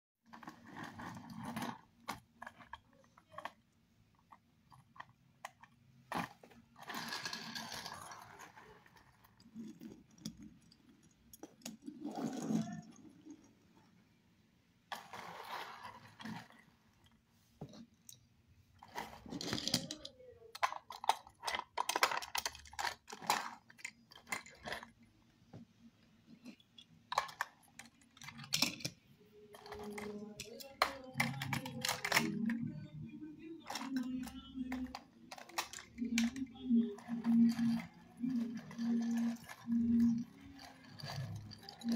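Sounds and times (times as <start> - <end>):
toy cars clicking on wood: 0.3 - 13.6, 18.8 - 25.0, 26.3 - 32.8, 33.6 - 41.9.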